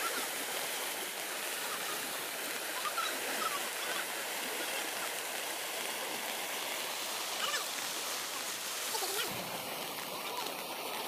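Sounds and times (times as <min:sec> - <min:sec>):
floodwater rushing through culvert: 0:00.0 - 0:11.0.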